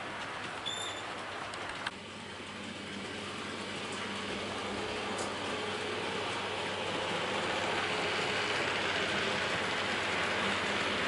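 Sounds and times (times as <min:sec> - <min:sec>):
model train rolling and whirring: 0:00.0 - 0:11.0.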